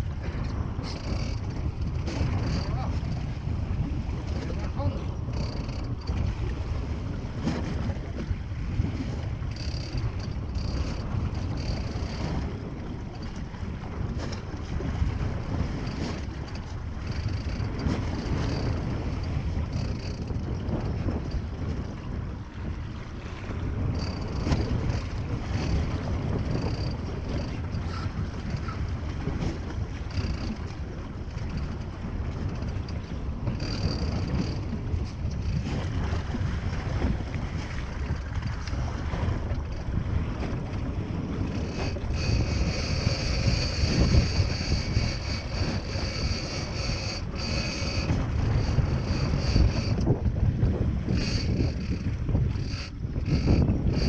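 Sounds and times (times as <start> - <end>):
boat engine low rumble: 0.0 - 54.0
wind buffeting microphone: 0.0 - 54.0.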